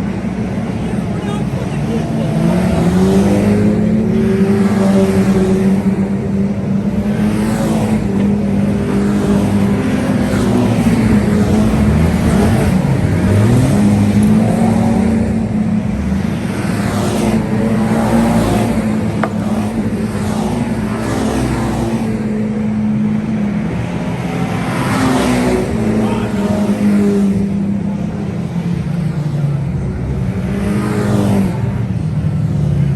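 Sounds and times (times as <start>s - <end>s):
race car engines revving: 0.0s - 32.9s.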